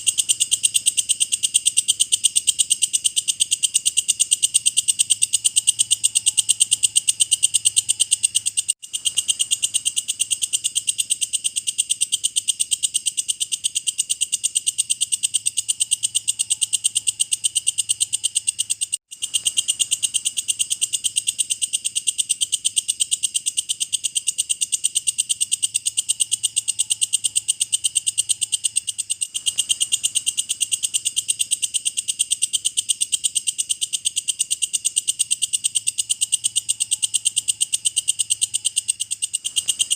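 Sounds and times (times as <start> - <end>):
bush cricket chirring: 0.0 - 39.9.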